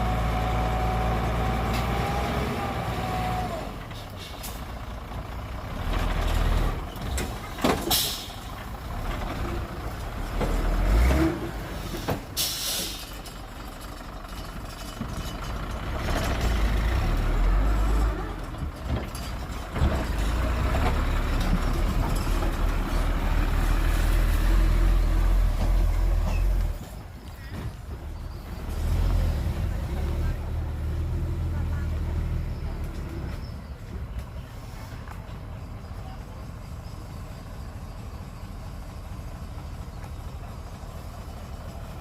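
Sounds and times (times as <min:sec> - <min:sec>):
diesel truck engine rumbling: 0:00.0 - 0:42.0.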